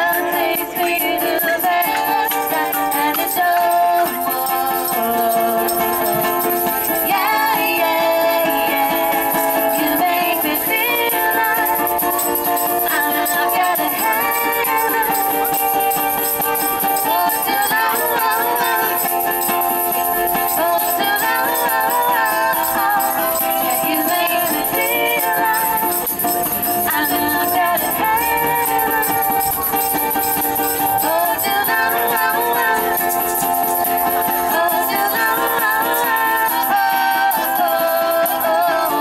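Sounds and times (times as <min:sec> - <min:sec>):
hand percussion rattling: 0:00.0 - 0:39.0
strummed ukulele: 0:00.0 - 0:39.0
women singing: 0:00.0 - 0:39.0.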